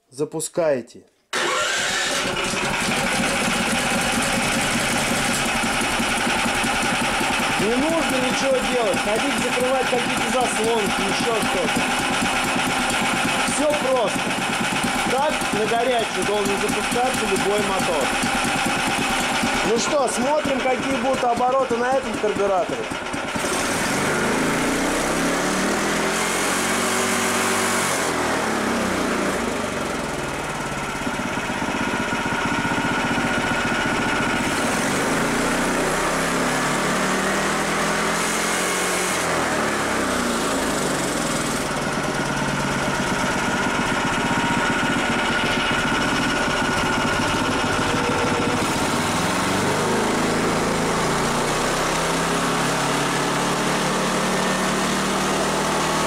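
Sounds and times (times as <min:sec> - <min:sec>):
engine revving: 0:01.4 - 0:56.0.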